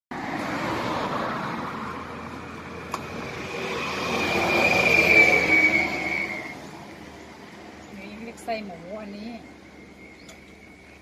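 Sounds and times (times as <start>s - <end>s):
vehicle passing by: 0.1s - 11.0s.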